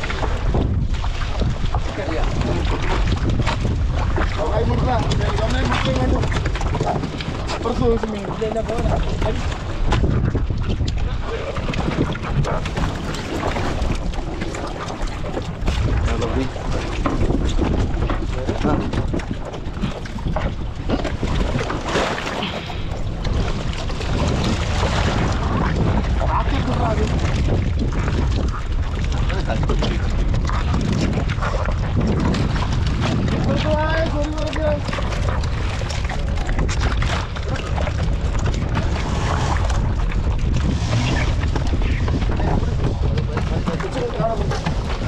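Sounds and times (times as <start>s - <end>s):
water rushing along hull: 0.0s - 45.0s
wind rumbling on microphone: 0.0s - 45.0s.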